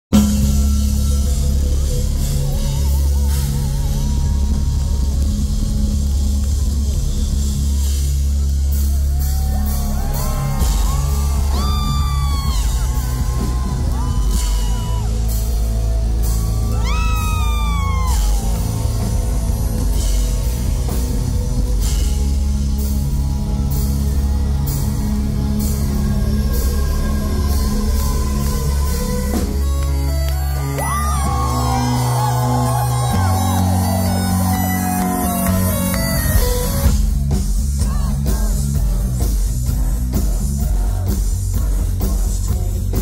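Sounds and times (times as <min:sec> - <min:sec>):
live rock band playing: 0:00.1 - 0:43.0.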